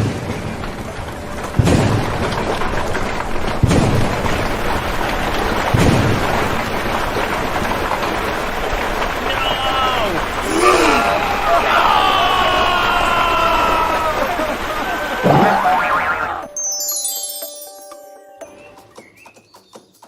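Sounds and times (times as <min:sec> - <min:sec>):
low rolling thunder: 0:00.0 - 0:16.4
heavy rain: 0:00.0 - 0:16.5.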